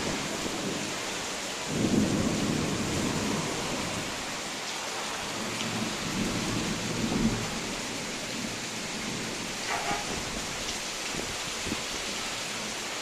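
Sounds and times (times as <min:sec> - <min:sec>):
thunder rumbling: 0:00.0 - 0:04.4, 0:05.2 - 0:11.8
heavy rain: 0:00.0 - 0:13.0.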